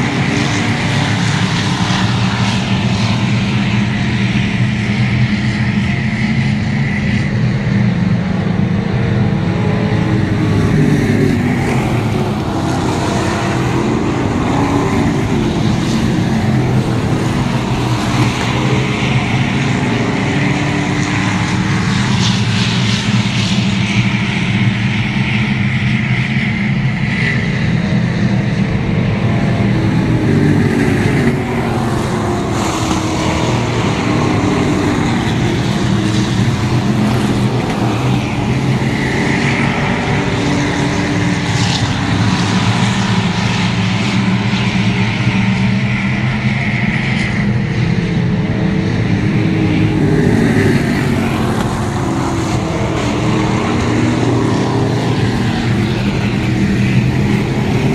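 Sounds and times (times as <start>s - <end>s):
race car engines: 0.0s - 57.9s.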